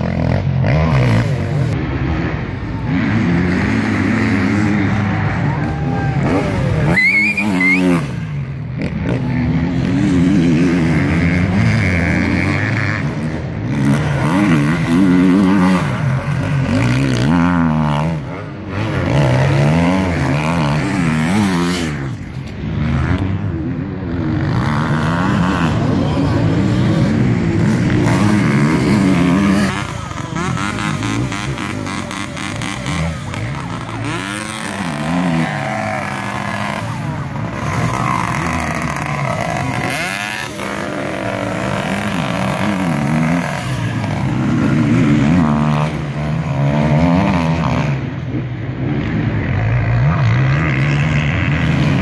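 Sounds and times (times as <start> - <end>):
dirt bike engines revving: 0.0 - 52.0.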